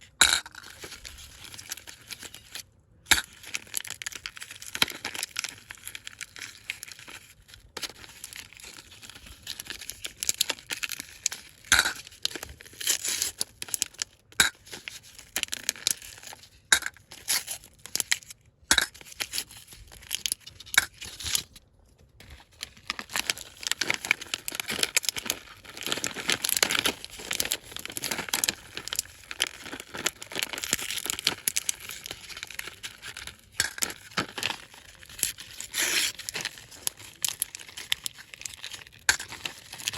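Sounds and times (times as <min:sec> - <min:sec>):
candy wrappers crinkling: 0:00.1 - 0:21.6, 0:22.2 - 0:39.9.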